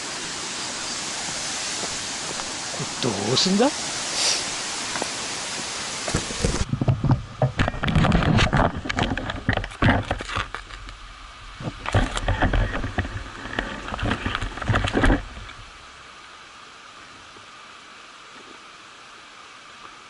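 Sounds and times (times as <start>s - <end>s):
steady rushing noise: 0.0s - 16.6s.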